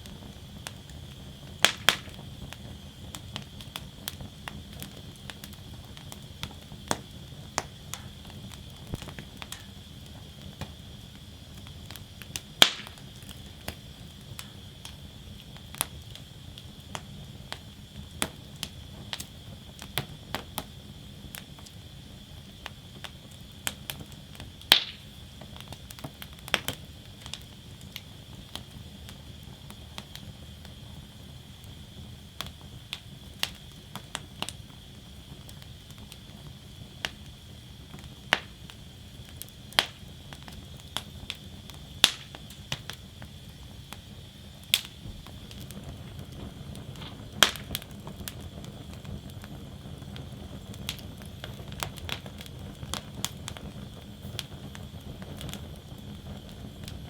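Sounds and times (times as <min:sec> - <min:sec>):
fire pops: 0:00.0 - 0:57.0
wood fire crackling: 0:00.0 - 0:57.0.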